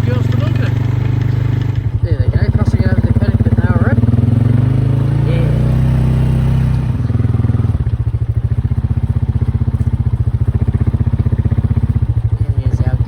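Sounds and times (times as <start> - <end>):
motorbike engine running: 0.0 - 13.0.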